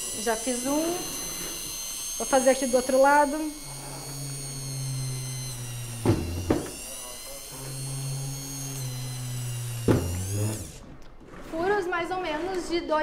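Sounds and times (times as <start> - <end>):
rotary drill whining: 0.0 - 11.1.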